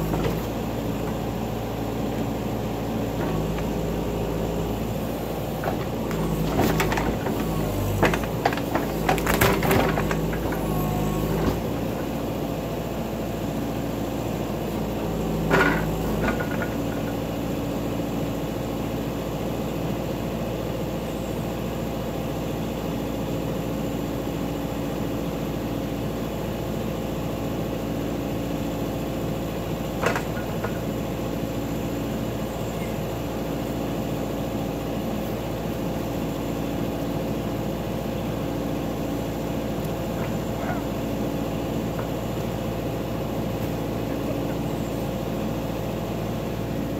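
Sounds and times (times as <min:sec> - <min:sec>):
backhoe engine running: 0:00.0 - 0:46.9.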